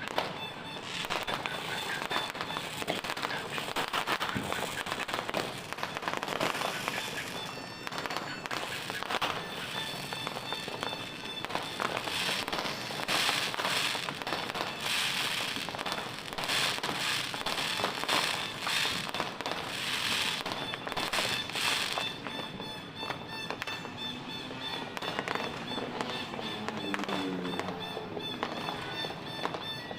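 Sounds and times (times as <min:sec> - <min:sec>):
fireworks banging and crackling: 0:00.0 - 0:29.9.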